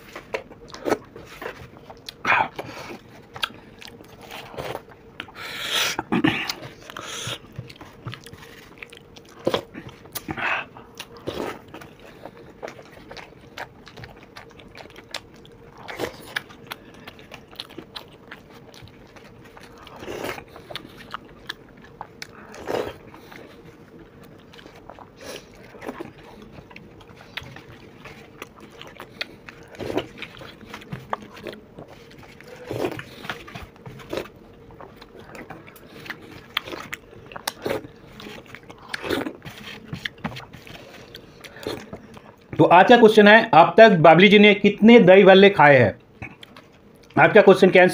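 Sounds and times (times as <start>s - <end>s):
chewing and wet mouth sounds: 0.0s - 42.6s, 46.0s - 47.4s
faint steady hum: 0.0s - 47.9s.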